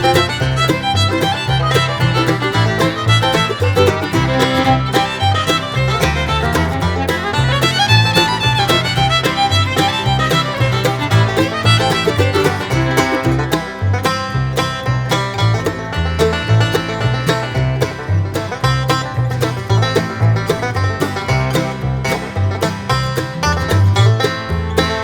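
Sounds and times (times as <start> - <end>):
bluegrass music with fiddle and banjo: 0.0 - 25.0.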